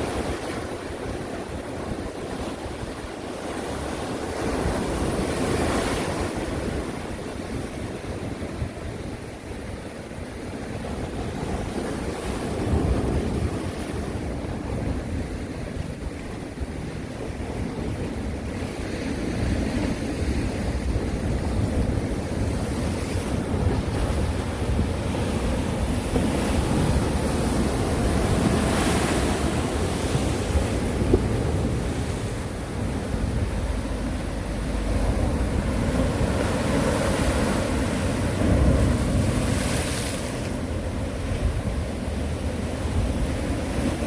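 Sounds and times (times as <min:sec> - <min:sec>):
sea waves washing onto shore: 0:00.0 - 0:44.0
wind buffeting microphone: 0:00.0 - 0:44.0.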